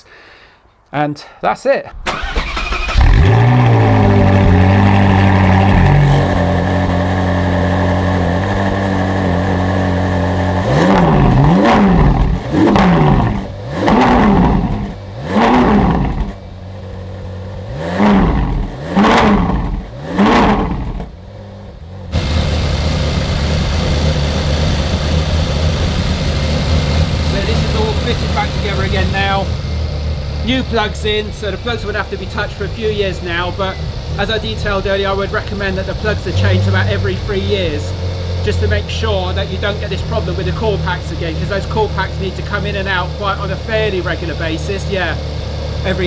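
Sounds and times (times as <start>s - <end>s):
car engine starting and idling: 1.9s - 46.0s
car engine revving: 2.0s - 46.0s.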